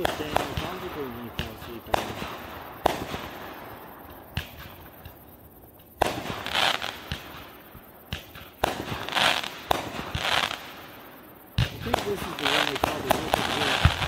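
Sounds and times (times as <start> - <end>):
fireworks bangs: 0.0 - 14.0
fireworks crackling: 0.0 - 14.0.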